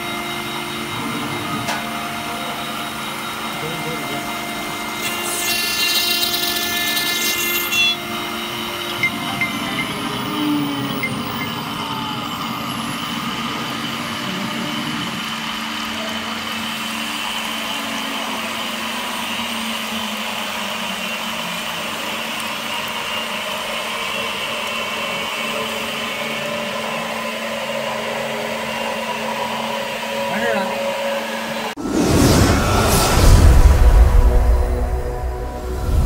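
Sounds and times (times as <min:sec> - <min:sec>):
cnc router humming: 0:00.0 - 0:31.8.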